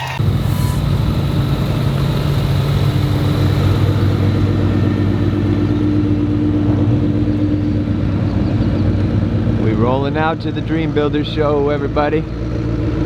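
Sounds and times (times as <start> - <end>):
car engine droning: 0.0 - 13.0
road noise: 0.0 - 13.0.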